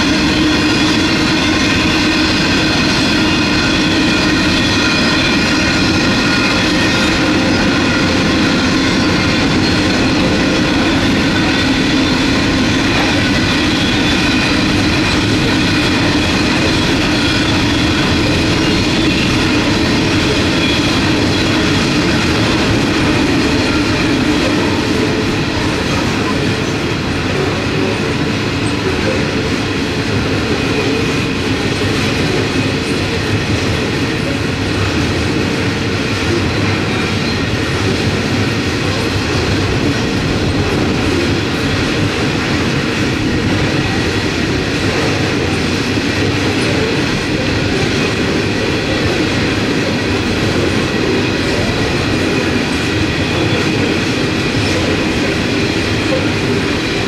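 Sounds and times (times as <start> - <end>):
freight train wheels on rail: 0.0 - 57.0.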